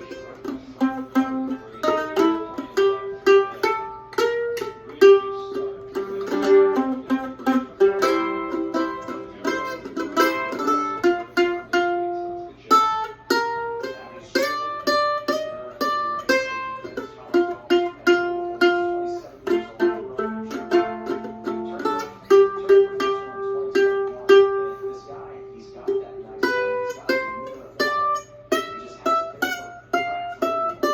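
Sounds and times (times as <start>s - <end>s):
mandolin playing blues melody: 0.0s - 30.9s.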